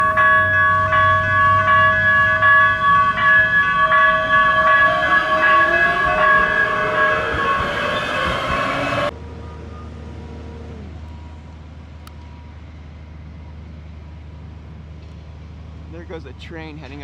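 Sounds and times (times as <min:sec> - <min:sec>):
high steady train tones: 0:00.0 - 0:15.9
light rail train passing: 0:00.0 - 0:17.0.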